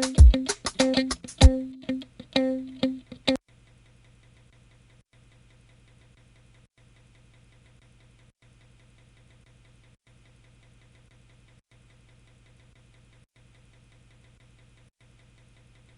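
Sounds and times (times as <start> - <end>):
faint hum with fine ticking: 1.4 - 15.9.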